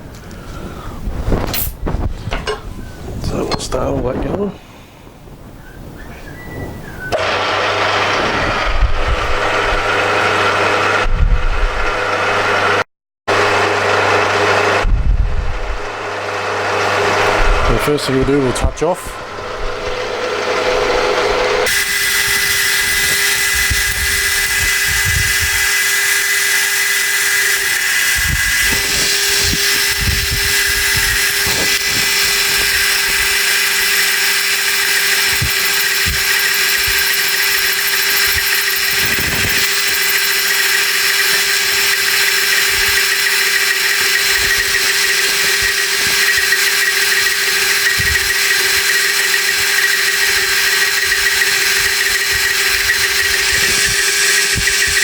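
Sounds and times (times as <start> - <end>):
saw whining and cutting steel: 6.8 - 11.1, 11.7 - 14.9, 15.6 - 55.0
machine hum: 6.8 - 55.0.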